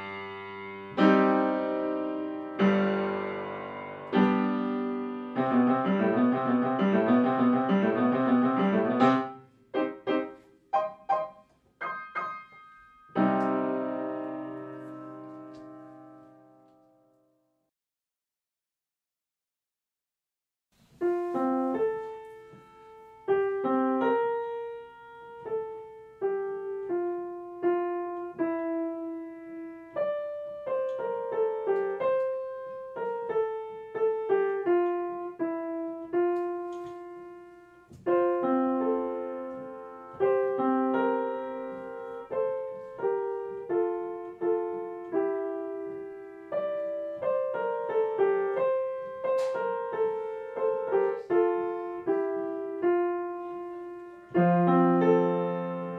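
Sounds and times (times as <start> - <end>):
solo piano melody: 0.0 - 17.5, 20.8 - 55.9.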